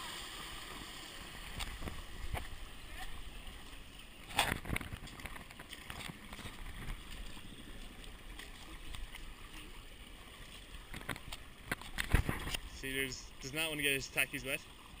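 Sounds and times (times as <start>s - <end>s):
stream running over rocks: 0.0s - 15.0s.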